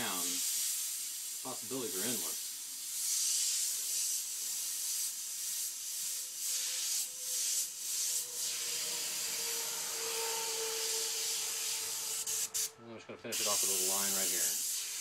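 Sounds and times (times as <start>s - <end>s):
airbrush hissing air: 0.0s - 15.0s.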